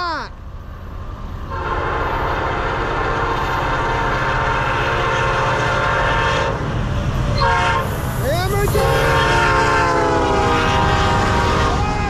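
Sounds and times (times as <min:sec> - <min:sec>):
diesel engine rumble: 0:00.0 - 0:12.0
locomotive air horn blast: 0:01.5 - 0:06.7, 0:07.4 - 0:12.0.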